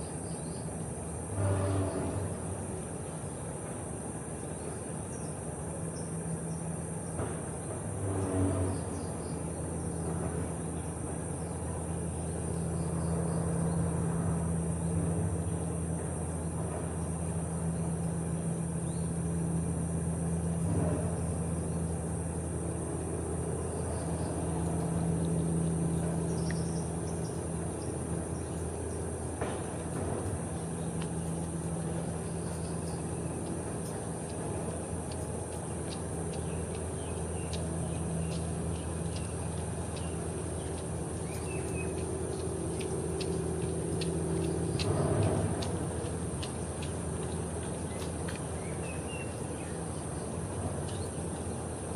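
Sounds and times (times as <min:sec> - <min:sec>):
low mechanical hum: 0:00.0 - 0:51.9.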